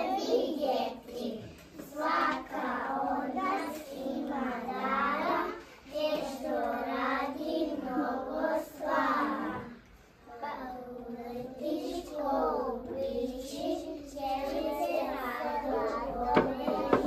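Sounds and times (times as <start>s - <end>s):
children singing together: 0.0s - 17.0s.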